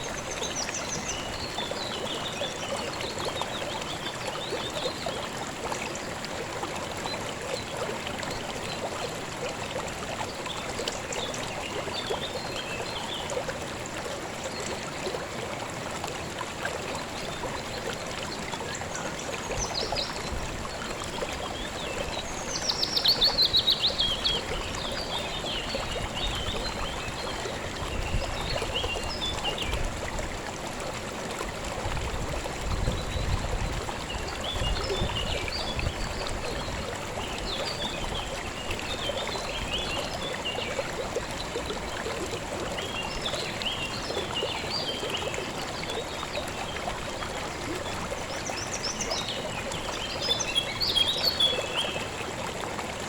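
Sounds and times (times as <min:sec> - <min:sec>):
river water babbling: 0:00.0 - 0:53.0.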